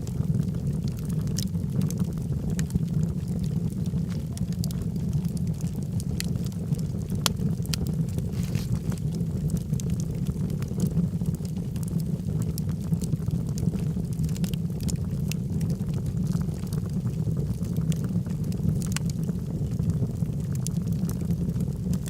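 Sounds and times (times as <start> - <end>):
fire crackling and popping: 0.0 - 22.0
low rumble of flame: 0.0 - 22.0.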